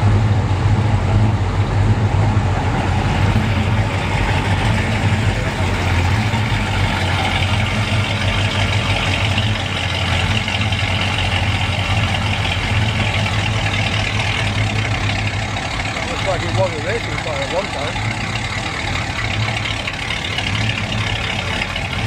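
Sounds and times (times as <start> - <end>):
car engines humming: 0.0 - 22.0.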